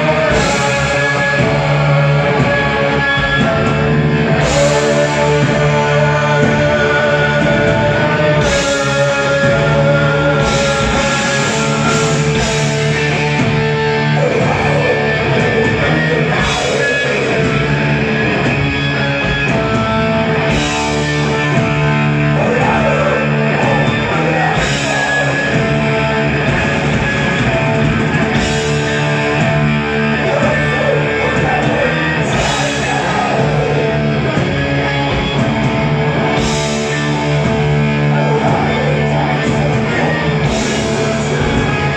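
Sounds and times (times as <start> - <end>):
heavy metal band playing live: 0.0 - 41.9.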